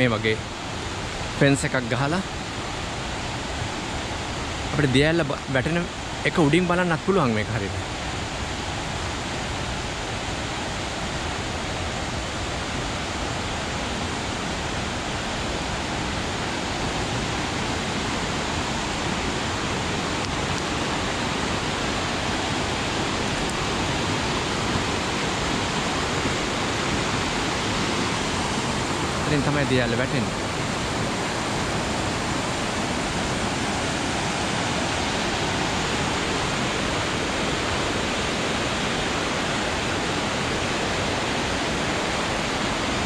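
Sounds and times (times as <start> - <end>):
river rapids gushing over rocks: 0.0 - 43.0.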